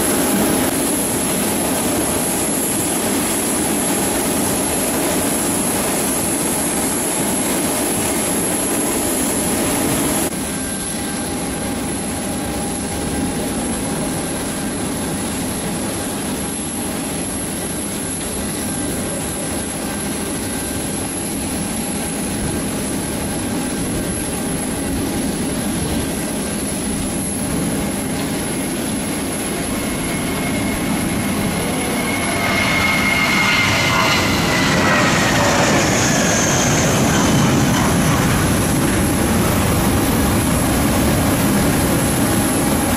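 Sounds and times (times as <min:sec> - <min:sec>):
jet engines rumbling and whining: 0:00.0 - 0:42.9.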